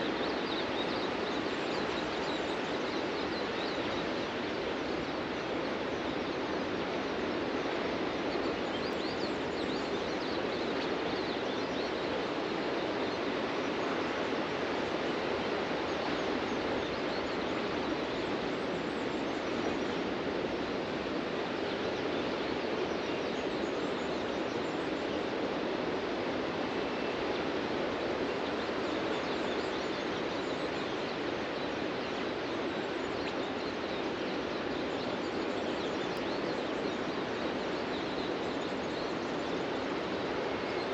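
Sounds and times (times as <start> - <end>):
faint birds chirping: 0.0 - 40.9.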